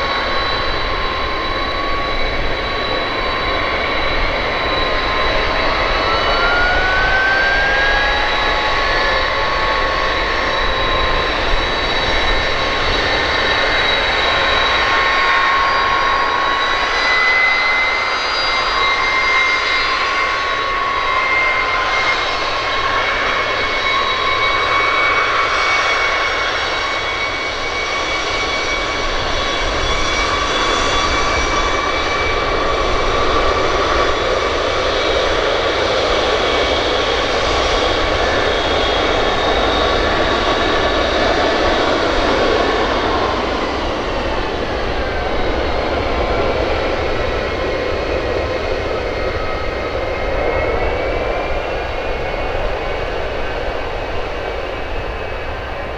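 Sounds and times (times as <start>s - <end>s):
jet engines rushing and whining: 0.0s - 55.9s.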